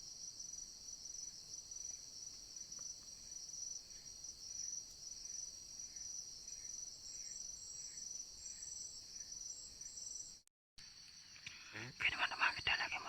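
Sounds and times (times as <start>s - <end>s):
chorus of forest insects: 0.0s - 13.0s.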